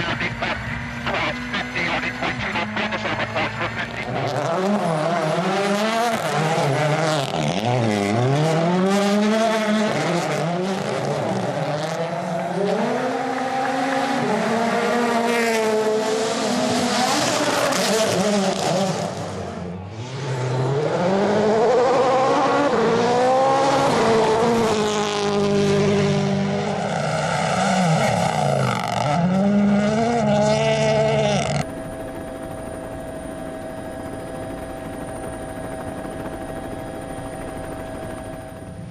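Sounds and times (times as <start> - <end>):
rally car engines revving: 0.0 - 31.7.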